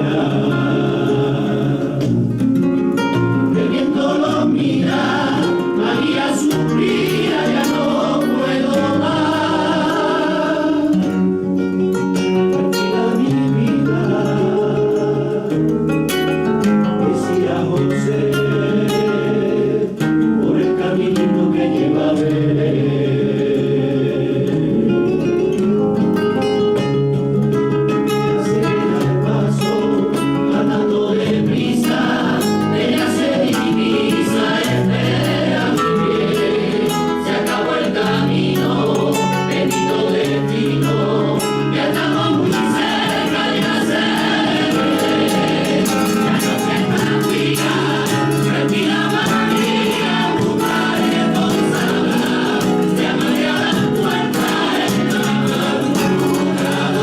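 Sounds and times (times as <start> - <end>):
choir singing a carol: 0.0 - 11.5, 12.5 - 15.9, 16.7 - 25.6, 28.3 - 57.0
instrumental accompaniment: 0.0 - 57.0.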